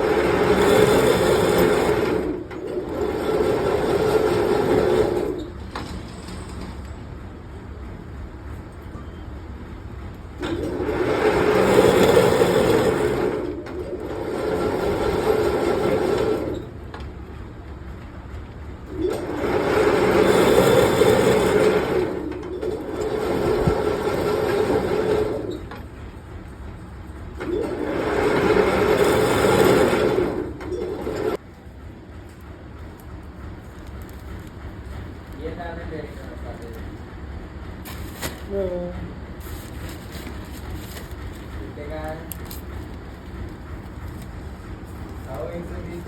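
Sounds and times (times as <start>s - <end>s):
machine running: 0.0s - 7.0s, 7.8s - 46.0s.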